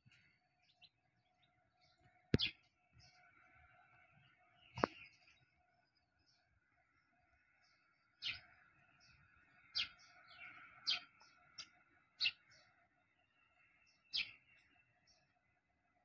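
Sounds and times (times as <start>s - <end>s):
birds chirping: 0.0s - 16.0s
faint steady drone: 0.0s - 16.0s.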